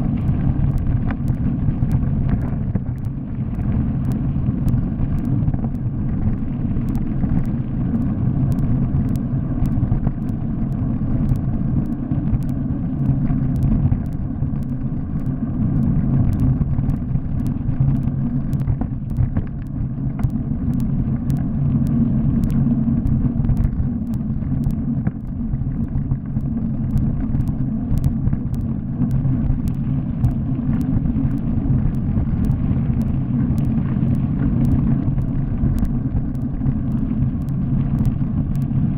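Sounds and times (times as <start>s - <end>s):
bicycle tyres rumbling on gravel: 0.0s - 38.9s
sharp ticks: 0.0s - 38.9s.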